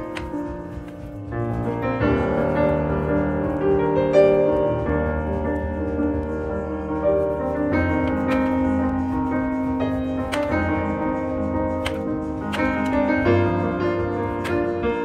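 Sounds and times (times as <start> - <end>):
piano music with held notes: 0.0 - 15.0.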